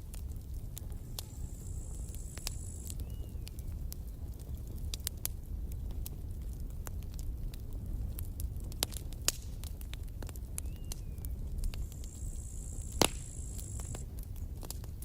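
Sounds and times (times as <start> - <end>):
campfire wood crackling: 0.0 - 15.0
fire rumbling: 0.0 - 15.0.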